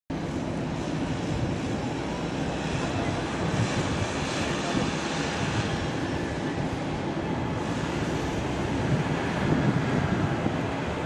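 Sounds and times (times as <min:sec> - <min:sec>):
jet engines rumbling while taxiing: 0:00.1 - 0:11.0.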